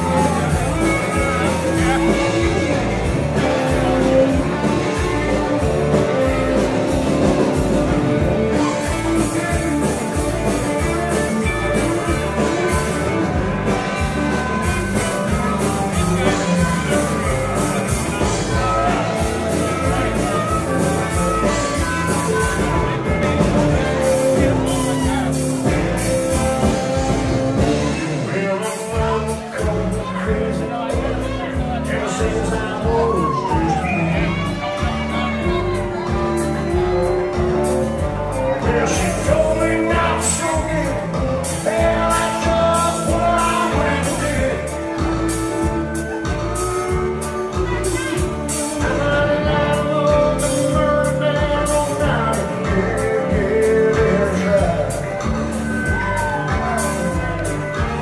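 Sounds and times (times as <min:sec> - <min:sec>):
country band playing: 0:00.0 - 0:58.0
person singing: 0:00.0 - 0:58.0.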